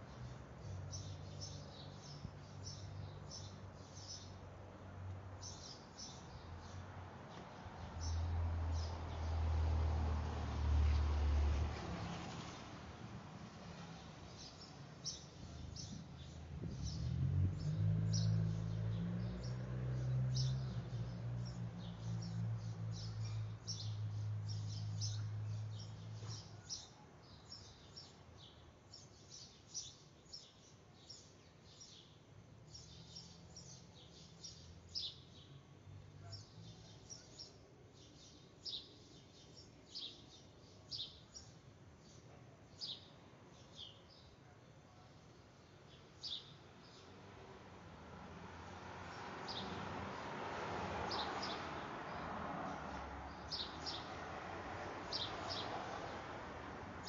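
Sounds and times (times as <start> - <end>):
small birds chirping: 0.0 - 9.4, 13.7 - 50.3, 51.1 - 56.4.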